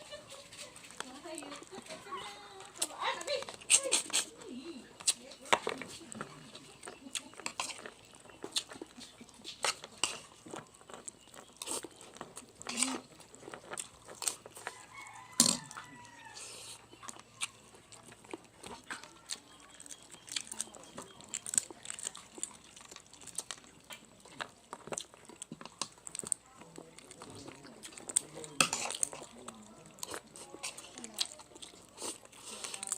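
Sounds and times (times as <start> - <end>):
chewing and crunching bones: 0.0 - 32.9.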